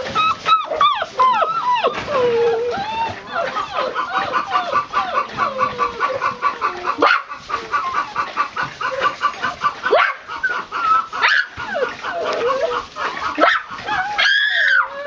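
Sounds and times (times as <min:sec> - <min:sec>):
puppies whimpering and yipping: 0:00.0 - 0:15.0.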